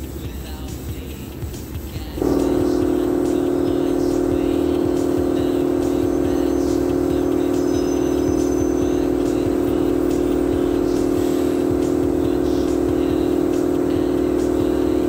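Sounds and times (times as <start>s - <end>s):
mechanical hum with low drone: 0.0s - 15.0s.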